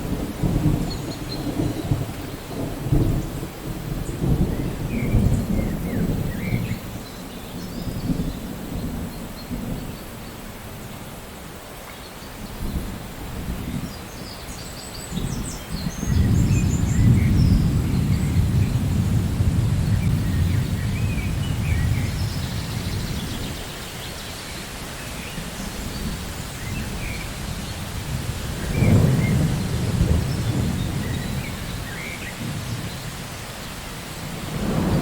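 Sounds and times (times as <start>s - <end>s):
rolling thunder: 0.0s - 10.0s, 15.1s - 23.7s, 25.2s - 35.0s
steady rain: 0.0s - 35.0s.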